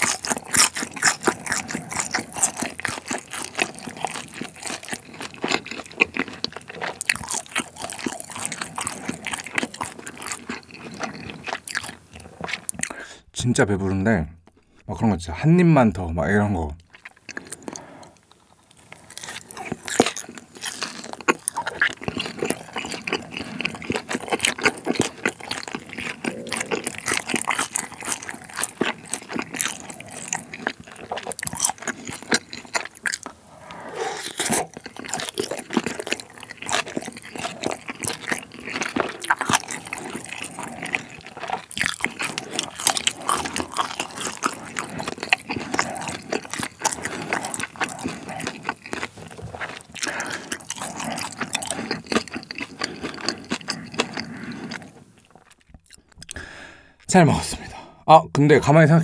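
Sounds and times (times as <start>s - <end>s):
crunchy chewing: 0.0s - 13.1s, 16.8s - 57.1s
wet sticky mouth sounds: 0.0s - 13.3s, 16.8s - 57.1s.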